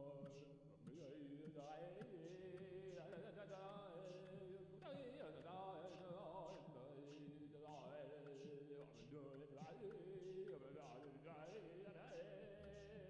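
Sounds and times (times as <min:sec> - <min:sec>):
chant-like sung melody: 0:00.0 - 0:13.0
light rhythmic ticks: 0:00.0 - 0:13.0.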